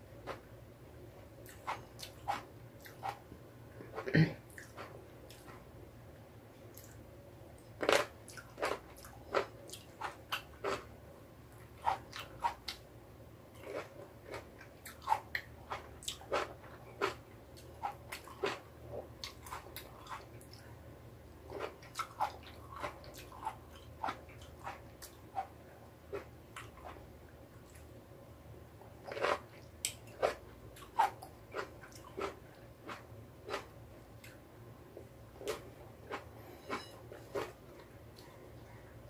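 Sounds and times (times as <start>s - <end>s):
tomatoes being chewed: 1.4s - 5.7s, 7.6s - 10.9s, 11.5s - 12.8s, 13.5s - 20.7s, 21.4s - 28.0s, 28.9s - 38.8s.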